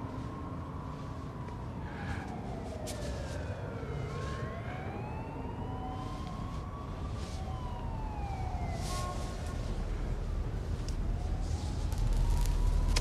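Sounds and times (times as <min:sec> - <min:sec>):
low traffic rumble: 0:00.0 - 0:13.0
siren wailing: 0:00.0 - 0:13.0.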